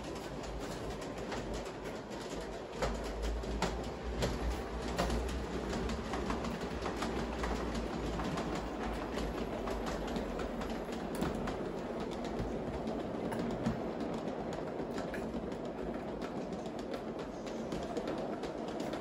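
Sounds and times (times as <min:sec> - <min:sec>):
model train running on track: 0:00.0 - 0:19.0
wheels clicking over rail joints: 0:00.0 - 0:19.0.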